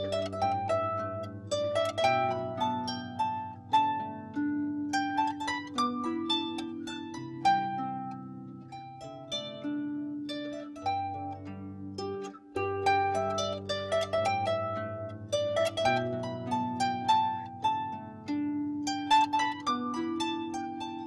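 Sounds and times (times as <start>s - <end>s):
harp playing slow tune: 0.0s - 21.0s.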